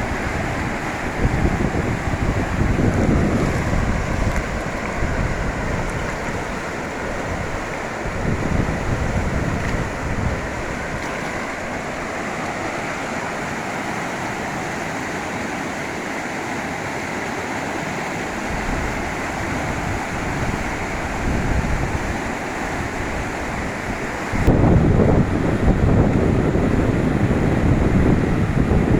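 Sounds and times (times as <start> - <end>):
wind buffeting microphone: 0.0 - 14.5, 18.3 - 28.9
waterfall roar: 0.0 - 28.9.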